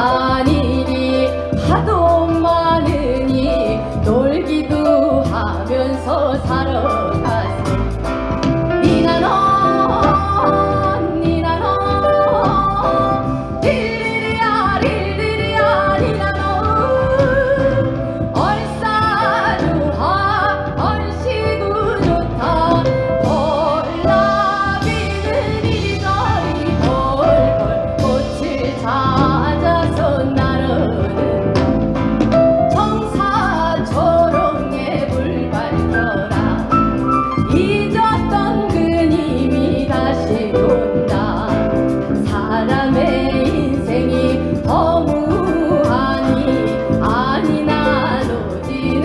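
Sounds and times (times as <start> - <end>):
woman singing folk song: 0.0 - 7.9, 8.8 - 31.7, 32.7 - 49.0
drum kit: 0.0 - 49.0
keyboard: 0.0 - 49.0.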